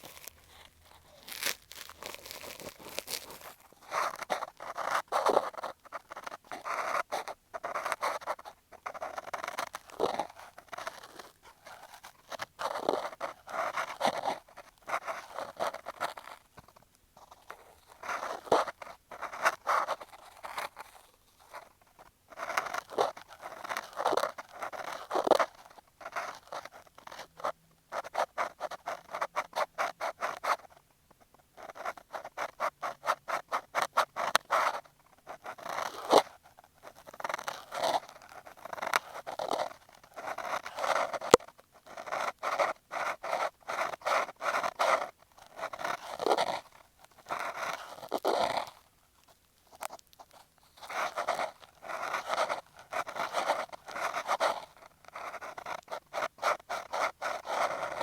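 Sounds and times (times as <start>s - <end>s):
cotton swab scraping microphone: 0.0s - 58.0s.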